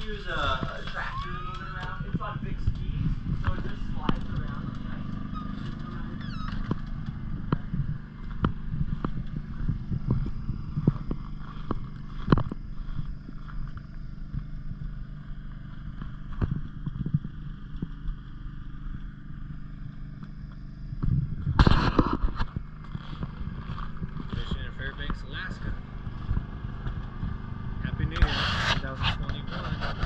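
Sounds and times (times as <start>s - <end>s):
footsteps crunching on snowy ice: 0.0s - 17.3s, 21.6s - 30.0s
steady low rumble: 0.0s - 30.0s.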